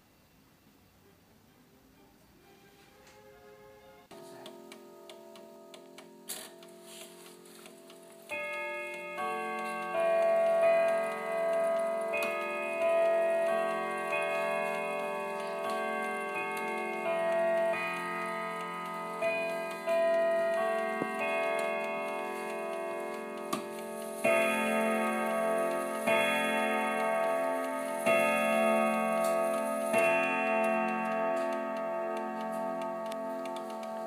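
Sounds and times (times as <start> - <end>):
clock chime melody: 4.1 - 34.0
clock ticking: 4.1 - 34.0
deep clock hour strikes: 4.1 - 34.0.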